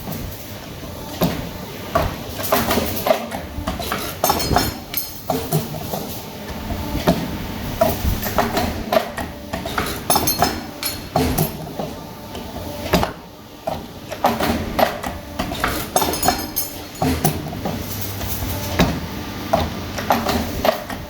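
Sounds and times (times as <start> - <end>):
machine running noise: 0.0 - 21.0
metallic clicks and clanks: 1.2 - 6.2, 7.8 - 21.0.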